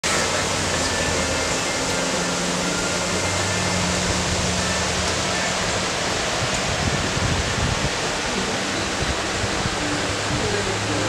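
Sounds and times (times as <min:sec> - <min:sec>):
floodwater rushing in a river: 0:00.0 - 0:11.0.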